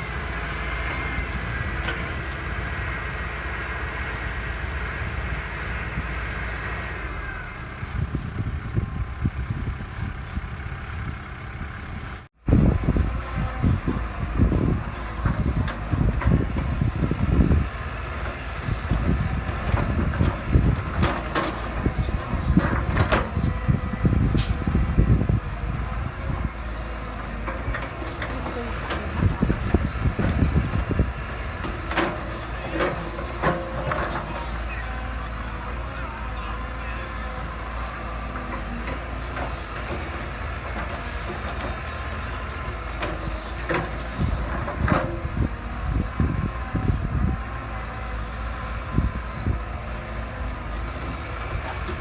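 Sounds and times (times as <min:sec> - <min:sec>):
heavy machinery engine rumble: 0:00.0 - 0:52.0.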